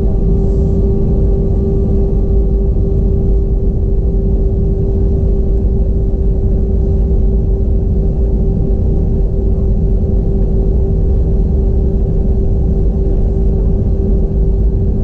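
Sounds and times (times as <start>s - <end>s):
airplane cabin engine rumble: 0.0s - 15.0s
mid-pitched hum: 0.0s - 15.0s.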